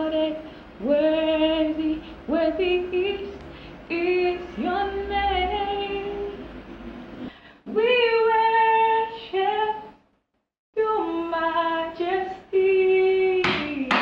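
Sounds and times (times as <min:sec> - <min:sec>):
woman singing unaccompanied: 0:00.0 - 0:06.5, 0:07.7 - 0:09.9, 0:10.8 - 0:14.0.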